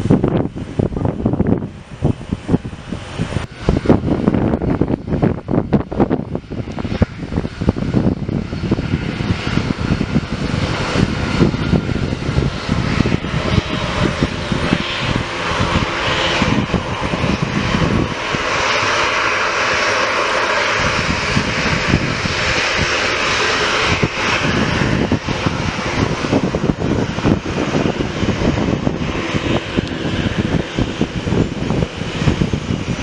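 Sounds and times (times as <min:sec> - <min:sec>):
airplane engines running: 0:00.0 - 0:33.0
wind buffeting microphone: 0:00.0 - 0:33.0.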